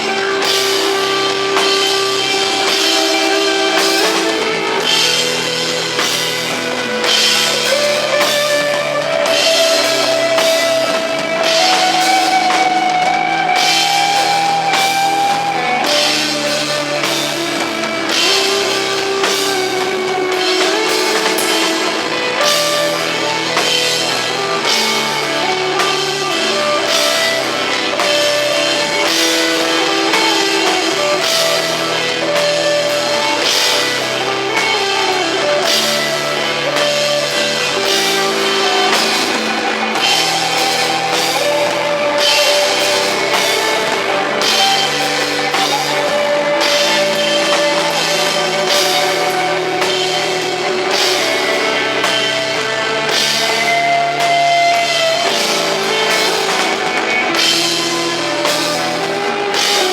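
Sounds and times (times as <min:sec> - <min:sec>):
drum kit beat with cymbals: 0:00.0 - 0:59.9
held electric guitar notes: 0:00.0 - 0:59.9.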